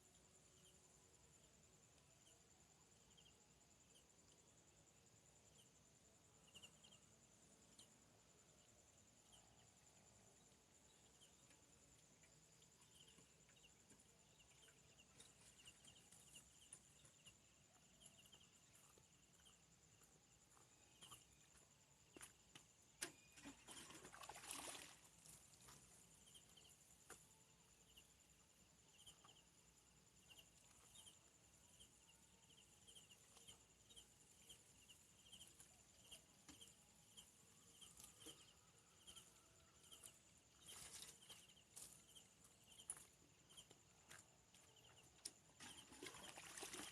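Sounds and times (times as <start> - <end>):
insects chirping: 0.0 - 46.9.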